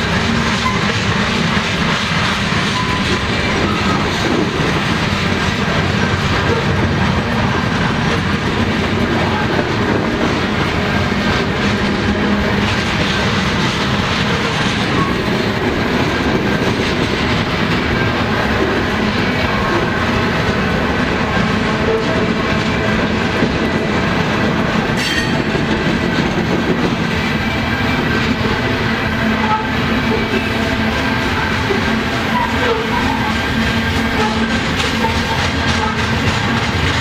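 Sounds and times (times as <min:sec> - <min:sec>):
freight train wheels on rails: 0:00.0 - 0:37.0.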